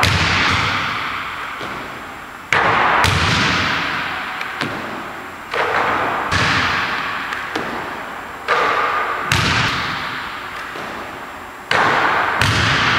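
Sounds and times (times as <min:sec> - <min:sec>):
basketball thudding in a gym: 0:00.0 - 0:12.9.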